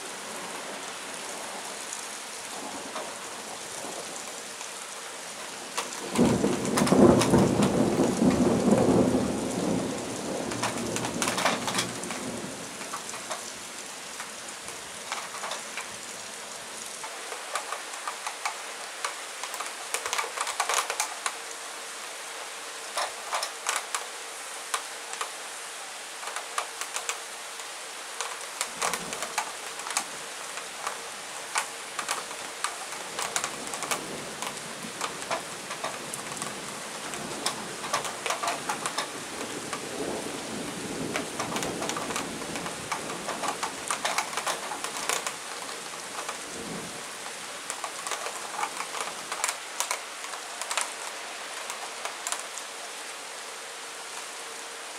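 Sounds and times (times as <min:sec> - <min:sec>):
rain falling: 0:00.0 - 0:54.9
raindrops tapping close by: 0:00.0 - 0:54.9.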